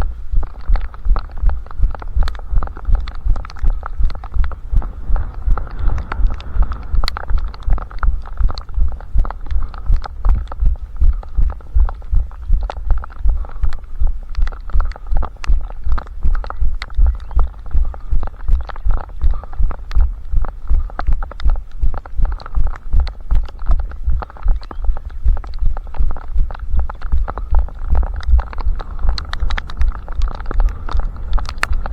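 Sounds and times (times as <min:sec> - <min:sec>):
small clicks and rattles: 0:00.0 - 0:31.9.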